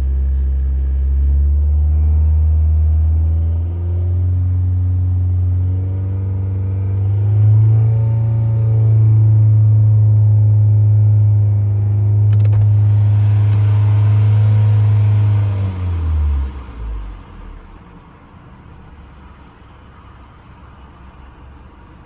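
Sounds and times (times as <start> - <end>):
car engine droning hum: 0.0 - 22.0
low road rumble: 0.0 - 22.0.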